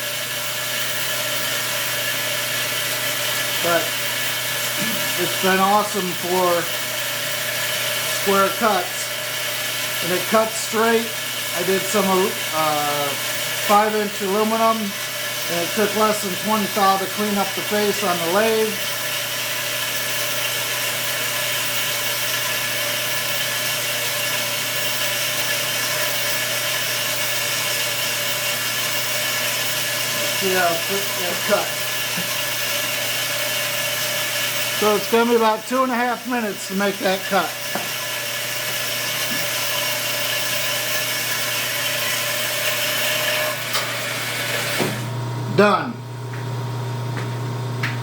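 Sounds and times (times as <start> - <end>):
band saw cutting steel: 0.0 - 45.8
saw blade whine: 0.0 - 45.9.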